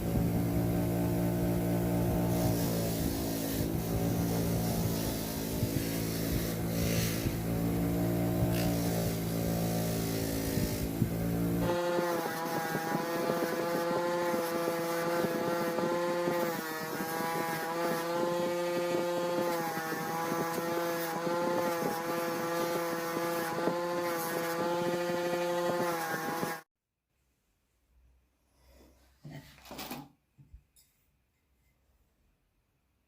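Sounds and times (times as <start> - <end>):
motor humming: 0.0 - 26.6.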